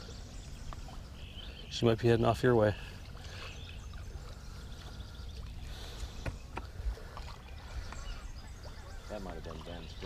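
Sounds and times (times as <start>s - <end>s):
low steady boat rumble: 0.0s - 10.0s.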